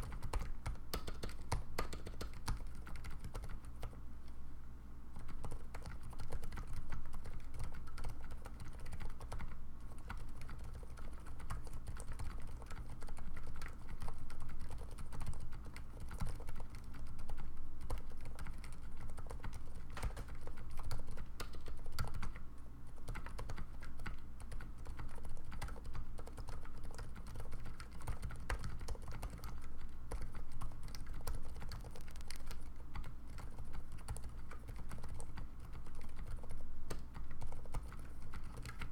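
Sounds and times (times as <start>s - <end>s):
fast typing on mechanical keyboard: 0.0s - 4.0s, 5.2s - 38.9s.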